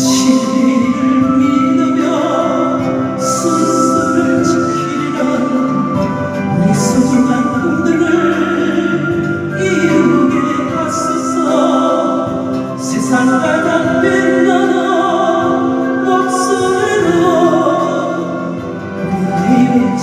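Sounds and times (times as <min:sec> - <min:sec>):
person singing with accompaniment: 0:00.0 - 0:20.0.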